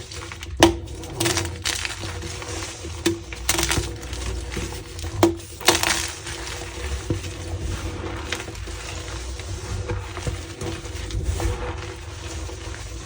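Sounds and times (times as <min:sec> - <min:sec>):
chalk crunching and squeaking: 0:00.0 - 0:13.0.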